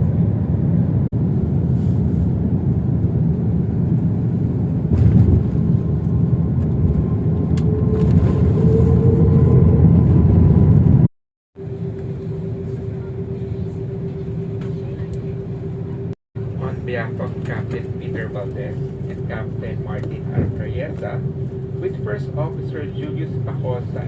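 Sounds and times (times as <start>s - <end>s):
jet engine and airflow rumble: 0.0s - 24.0s
faint whine: 4.2s - 24.0s.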